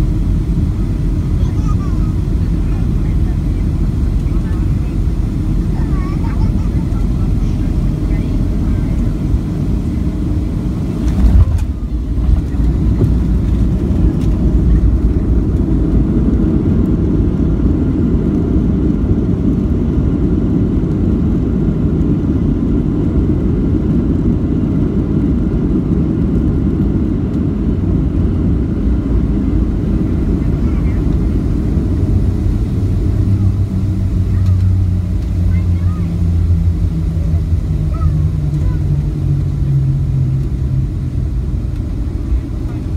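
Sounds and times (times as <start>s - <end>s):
wheels and engines rumbling: 0.0s - 42.9s.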